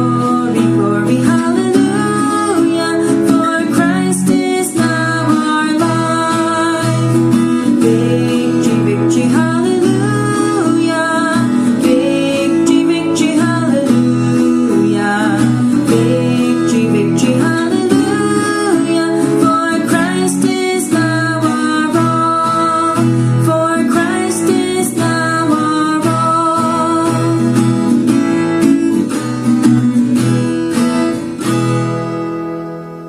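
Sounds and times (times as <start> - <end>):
person singing: 0.0 - 28.7
acoustic guitar: 0.0 - 33.0.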